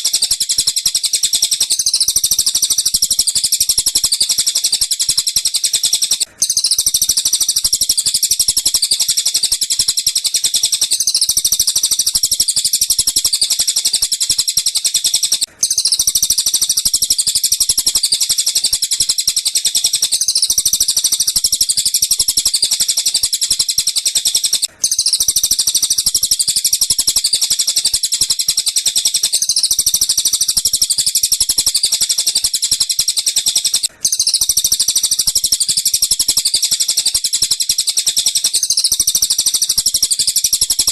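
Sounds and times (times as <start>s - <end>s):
fast high-pitched bird chirping: 0.0s - 40.9s.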